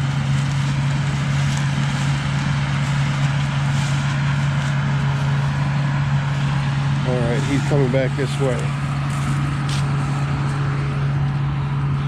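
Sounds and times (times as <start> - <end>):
combine harvester machinery: 0.0 - 12.0.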